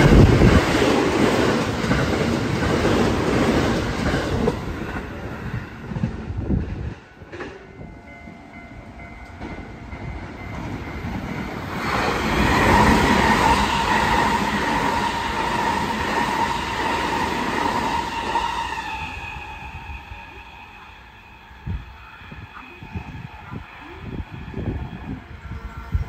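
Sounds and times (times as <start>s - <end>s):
electric train whine: 0.0s - 26.0s
train wheels rumbling on rails: 0.0s - 26.0s.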